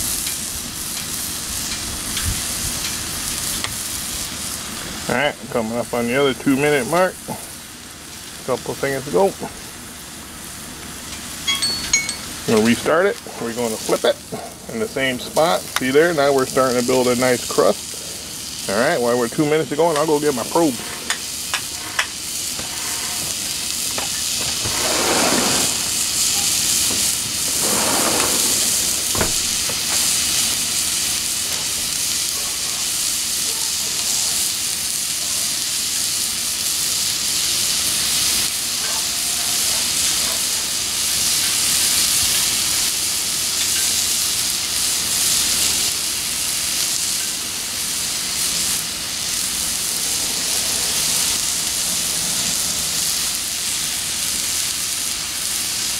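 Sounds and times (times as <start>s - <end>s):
steak sizzling on griddle: 0.0s - 55.9s.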